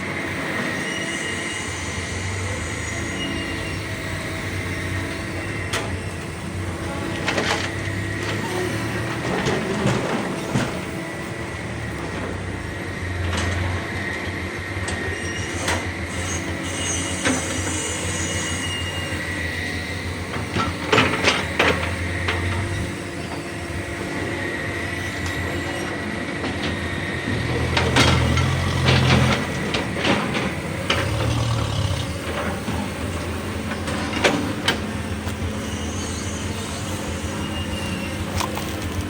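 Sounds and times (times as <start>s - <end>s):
excavator engine rumble with whine: 0.0s - 39.0s.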